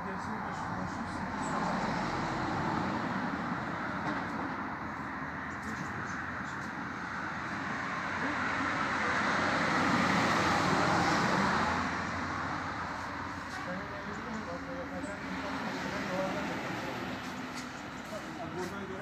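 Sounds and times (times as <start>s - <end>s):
vehicle passing: 0.7s - 19.0s.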